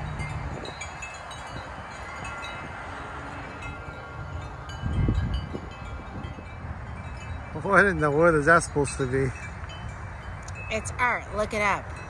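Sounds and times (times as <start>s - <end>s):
metal wind chimes ringing: 0.0s - 12.0s
wind rumble on microphone: 0.0s - 12.0s.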